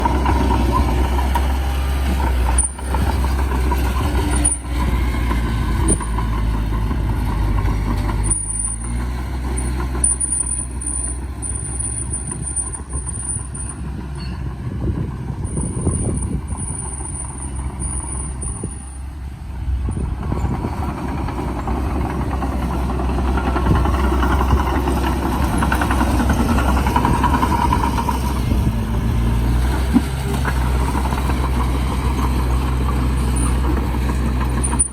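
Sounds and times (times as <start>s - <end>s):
heavy diesel machinery drone: 0.0s - 34.9s.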